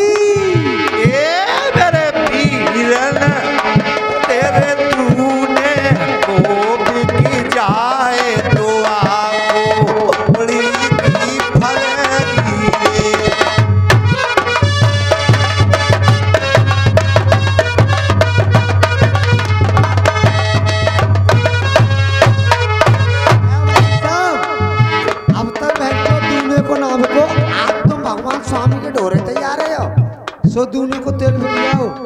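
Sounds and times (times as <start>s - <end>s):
hand drum fast rhythm: 0.0s - 32.0s.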